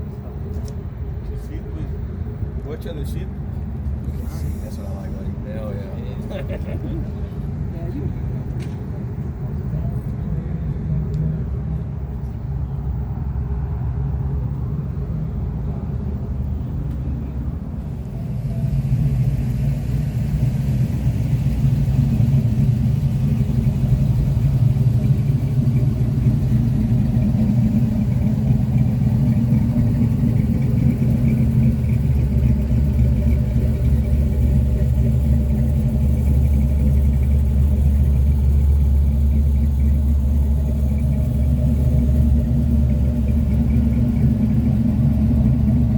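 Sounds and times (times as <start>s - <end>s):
truck engine rumbling: 0.0s - 45.9s.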